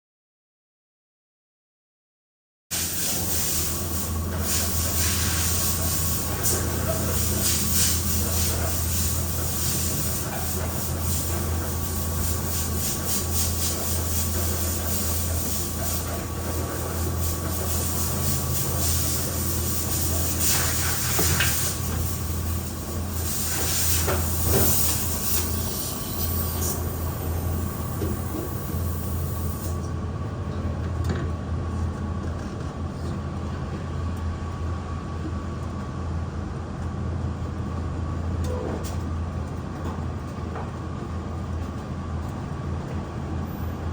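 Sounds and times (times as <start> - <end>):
low mechanical hum: 2.7 - 43.9.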